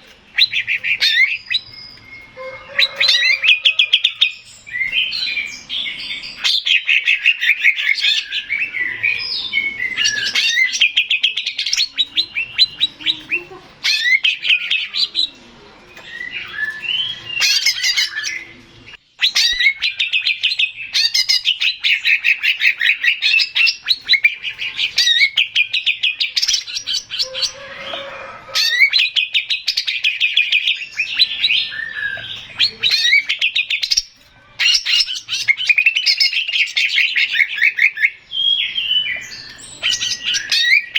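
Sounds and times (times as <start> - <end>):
bird singing chirps and warbles: 0.0 - 40.9.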